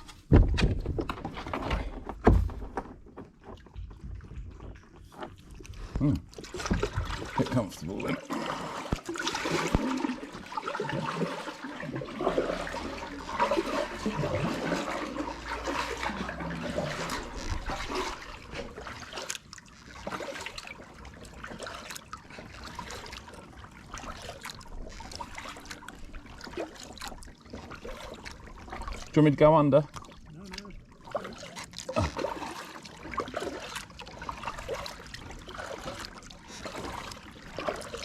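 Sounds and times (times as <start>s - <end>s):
paddle splashing water: 0.0s - 38.0s.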